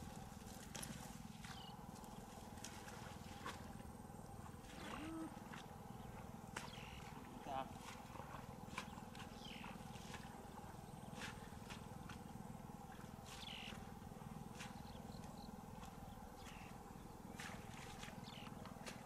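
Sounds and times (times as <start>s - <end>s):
footsteps through marsh plants: 0.0s - 19.0s.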